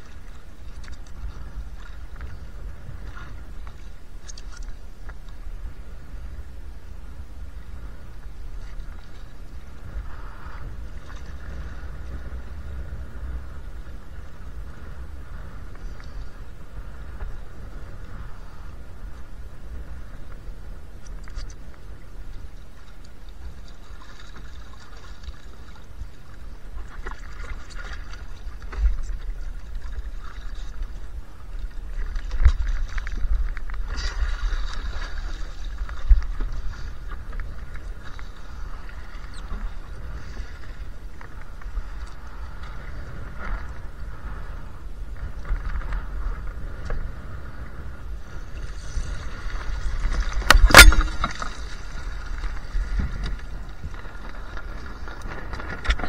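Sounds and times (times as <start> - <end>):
low wind rumble: 0.0 - 56.0
water rushing along hull: 0.0 - 56.0.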